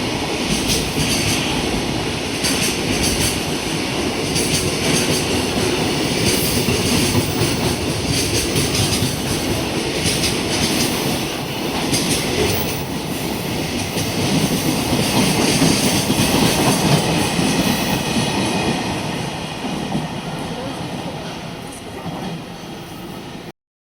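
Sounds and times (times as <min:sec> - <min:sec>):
freight train rumbling past: 0:00.0 - 0:23.5.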